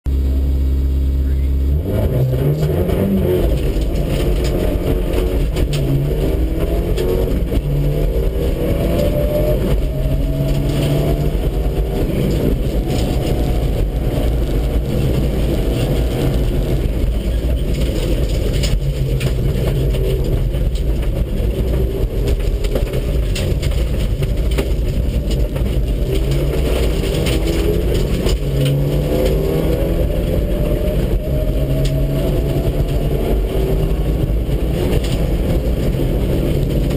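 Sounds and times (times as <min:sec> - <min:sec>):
rally car engine revving: 0:00.1 - 0:36.9.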